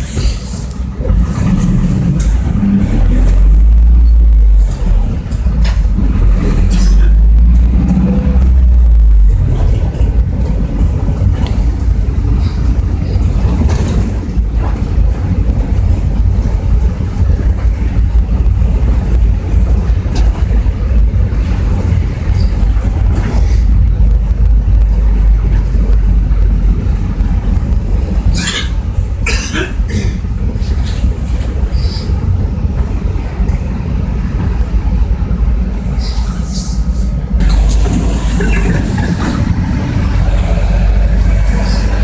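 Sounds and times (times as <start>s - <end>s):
bus body rattling: 0.0s - 42.0s
bus engine and road rumble: 0.0s - 42.0s.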